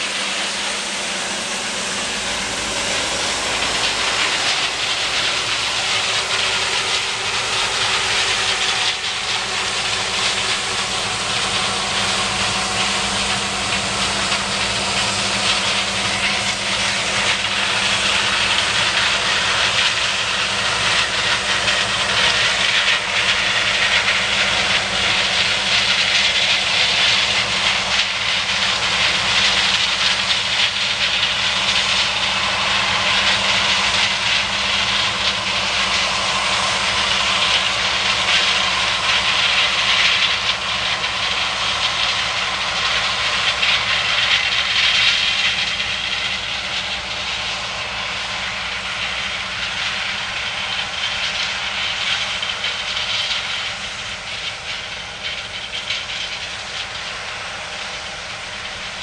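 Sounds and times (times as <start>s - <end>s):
combine harvester machinery noise: 0.0s - 59.0s.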